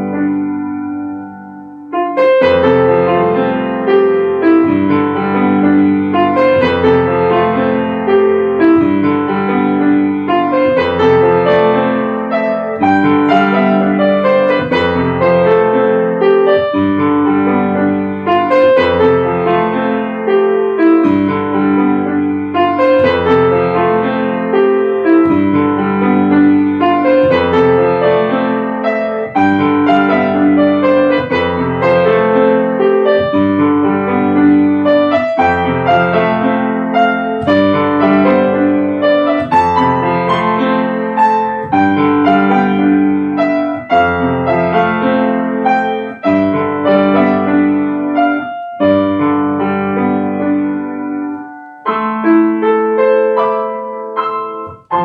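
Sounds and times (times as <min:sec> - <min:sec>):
solo piano: 0:00.0 - 0:55.0.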